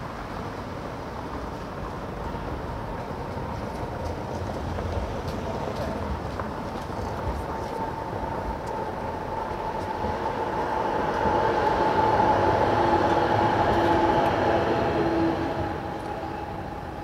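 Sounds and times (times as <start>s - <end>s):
tram electric whine: 0.0s - 17.0s
tram rolling noise: 0.0s - 17.0s.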